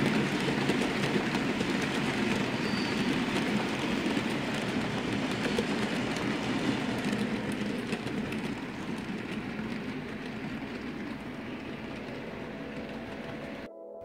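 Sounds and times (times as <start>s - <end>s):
model train rolling on track: 0.0s - 13.7s
wheels clicking over rail joints: 0.0s - 13.7s.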